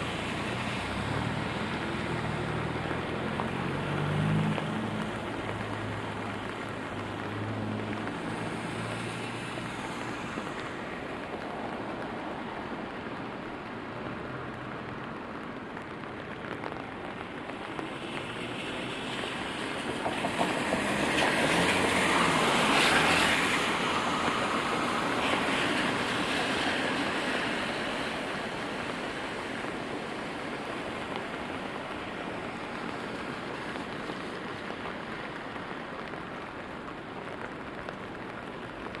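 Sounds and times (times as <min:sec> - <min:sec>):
steady rain: 0:00.0 - 0:39.0
vehicle tyres hissing on wet road: 0:00.0 - 0:39.0.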